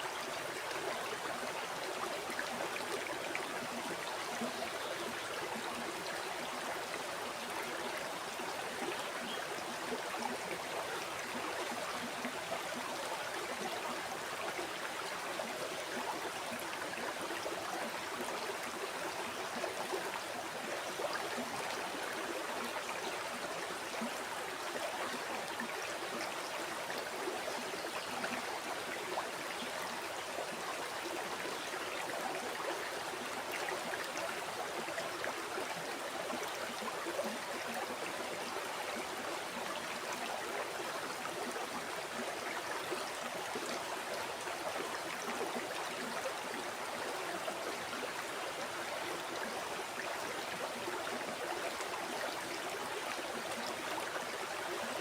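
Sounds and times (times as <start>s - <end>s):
river water flowing and babbling: 0.0s - 55.0s.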